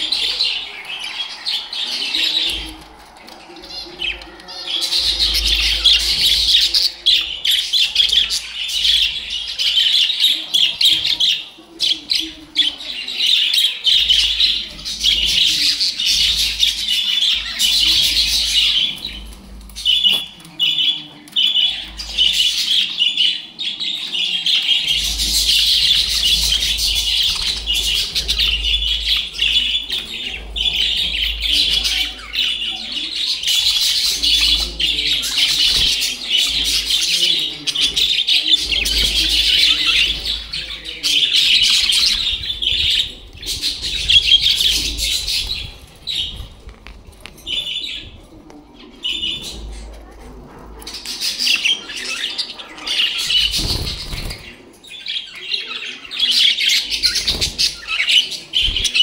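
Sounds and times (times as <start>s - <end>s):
budgerigars chattering and chirping: 0.0s - 46.7s, 47.4s - 59.0s.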